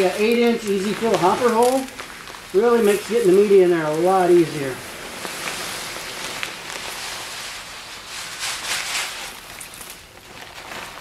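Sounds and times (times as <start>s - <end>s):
granules pouring into plastic hopper: 0.0s - 11.0s.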